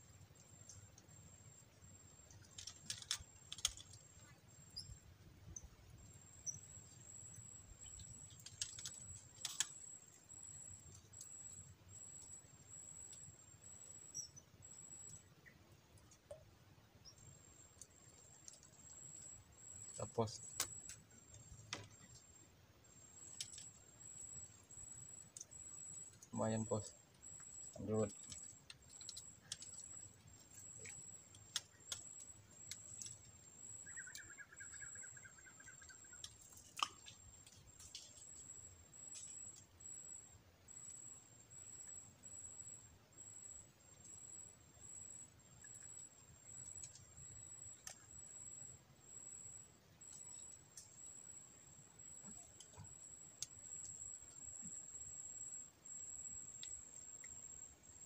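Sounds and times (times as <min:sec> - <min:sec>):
faint ticks: 0:00.0 - 0:58.0.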